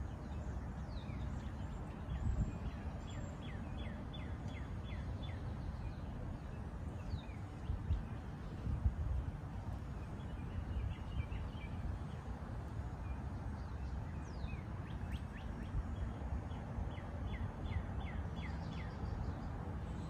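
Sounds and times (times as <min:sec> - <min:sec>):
songbird singing: 0:00.0 - 0:20.0
steady low rumble: 0:00.0 - 0:20.0.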